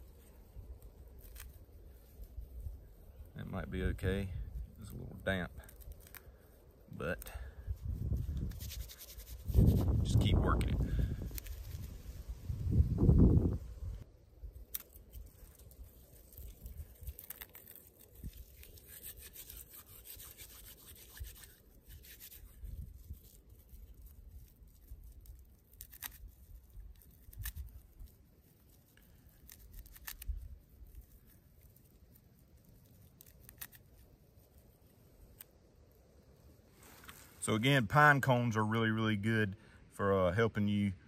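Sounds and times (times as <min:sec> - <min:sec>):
tinder scratching and crackling: 0:00.0 - 0:38.4.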